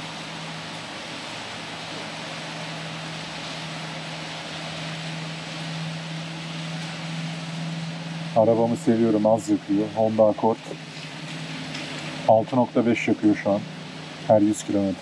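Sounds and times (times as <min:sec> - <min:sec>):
fuel flowing hiss: 0:00.0 - 0:15.0
fuel pump humming: 0:00.0 - 0:15.0.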